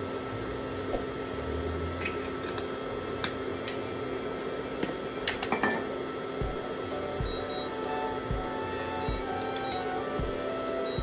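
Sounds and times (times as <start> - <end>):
cooling fan noise: 0.0 - 11.0
induction cooktop humming: 0.0 - 11.0.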